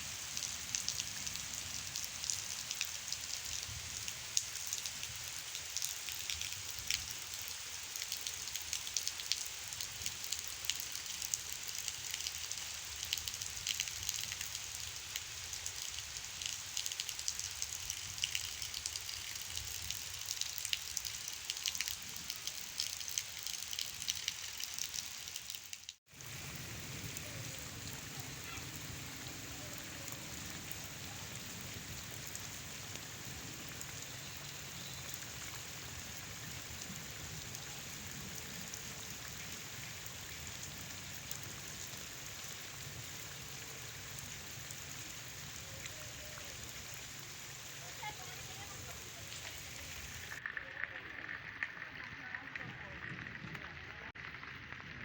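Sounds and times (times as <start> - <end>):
heavy rain patter: 0.0 - 55.0.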